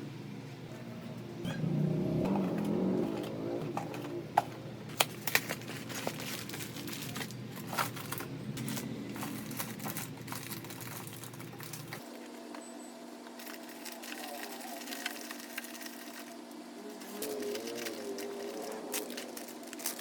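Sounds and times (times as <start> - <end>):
low steady hum: 0.0 - 20.0
groceries being set down: 2.2 - 12.6, 13.3 - 16.4, 17.0 - 20.0.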